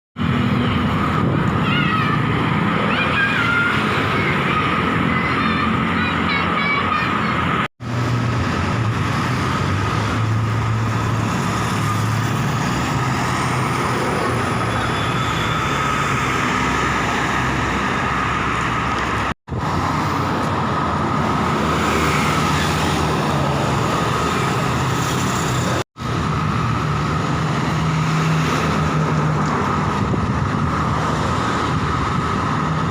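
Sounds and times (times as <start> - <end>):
road traffic with trucks: 0.2 - 32.9.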